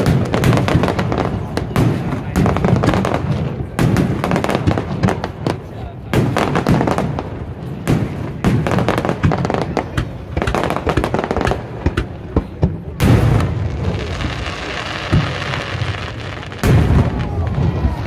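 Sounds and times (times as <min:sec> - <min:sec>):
fireworks bangs and pops: 0:00.0 - 0:18.0
fireworks crackling hiss: 0:00.0 - 0:18.0.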